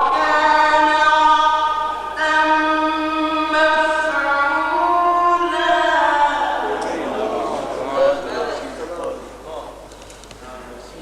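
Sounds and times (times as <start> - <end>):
man chanting melodically: 0.0 - 9.7.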